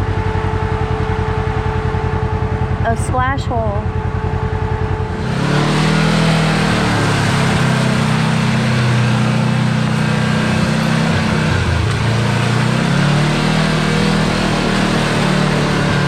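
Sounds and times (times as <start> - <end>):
utility vehicle engine running hard: 0.0 - 16.0.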